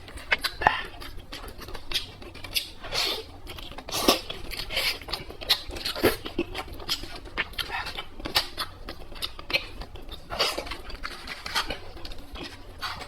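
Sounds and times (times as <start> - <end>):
chewing with crunching: 0.0 - 13.0.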